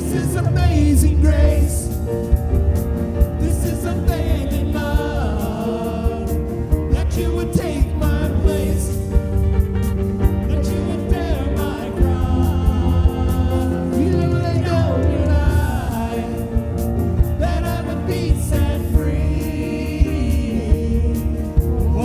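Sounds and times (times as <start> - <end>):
electric guitar: 0.0 - 22.0
people singing into microphones: 0.0 - 22.0
piano: 0.0 - 22.0.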